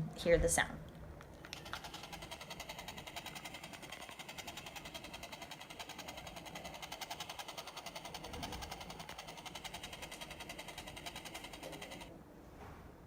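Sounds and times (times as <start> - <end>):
toy electronic rotor pulsing: 1.5 - 12.1.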